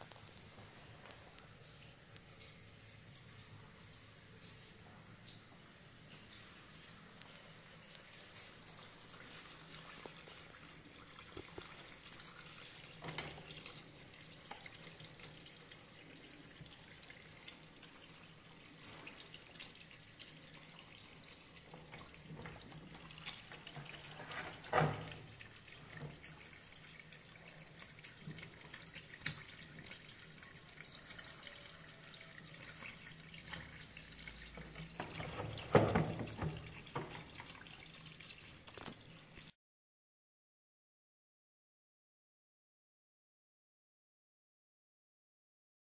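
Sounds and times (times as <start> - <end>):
water running into tub: 0.0 - 39.5.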